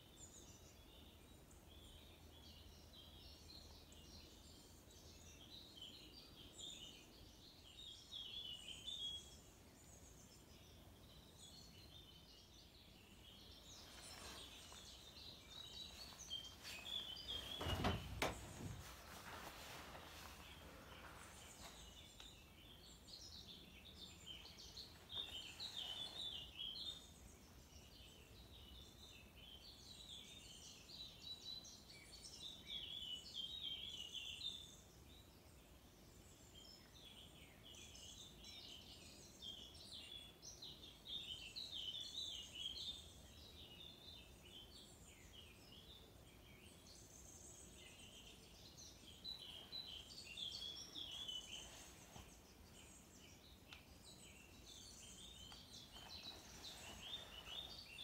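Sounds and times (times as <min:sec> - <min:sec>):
faint outdoor background hum: 0:00.0 - 0:58.0
songbirds chirping: 0:00.0 - 0:58.0.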